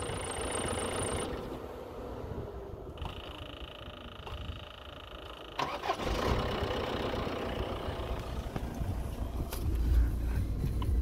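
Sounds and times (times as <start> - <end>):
diesel engine starting and idling: 0.0 - 11.0.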